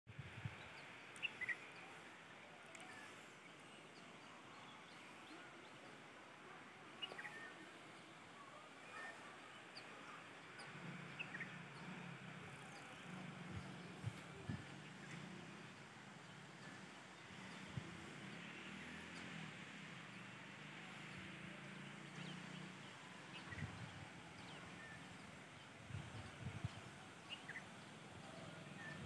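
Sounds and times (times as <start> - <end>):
faint outdoor ambience: 0.1 - 29.0.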